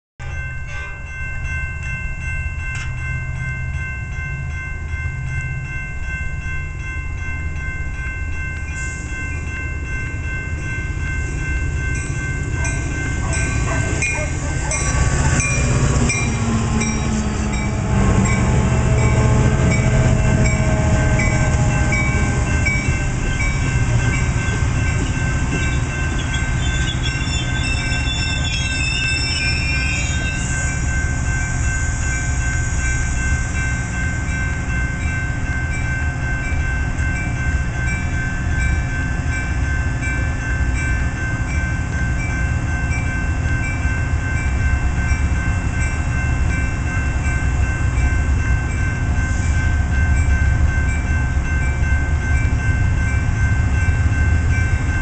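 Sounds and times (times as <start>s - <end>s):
diesel train passing: 0.2s - 55.0s.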